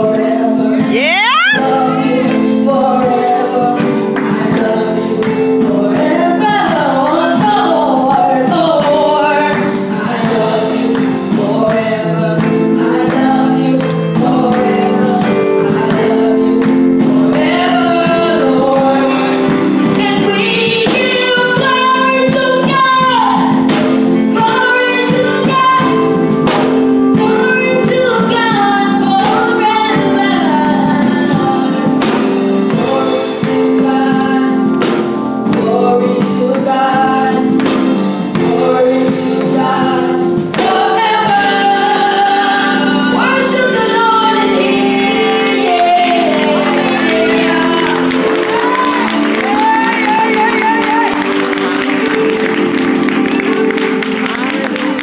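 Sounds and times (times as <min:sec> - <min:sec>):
boy singing into microphone: 0:00.0 - 0:55.0
sustained keyboard chords: 0:00.0 - 0:55.0.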